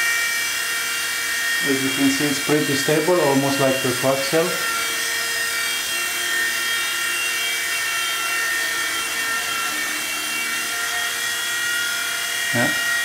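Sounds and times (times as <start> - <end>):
rc helicopter rotors whining: 0.0 - 13.0.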